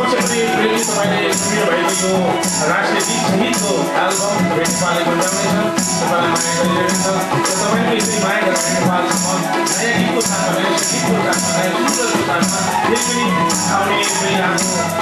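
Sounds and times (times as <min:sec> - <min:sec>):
folk music ensemble: 0:00.0 - 0:15.0.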